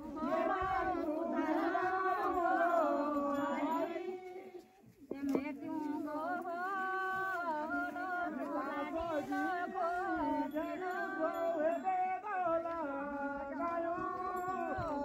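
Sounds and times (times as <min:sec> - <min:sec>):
person singing slow folk song: 0:00.0 - 0:15.0.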